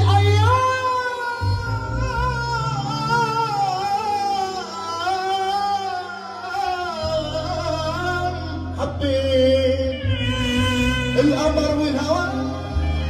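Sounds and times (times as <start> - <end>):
electronic keyboard backing: 0.0 - 13.0
man singing through microphone: 0.0 - 13.0.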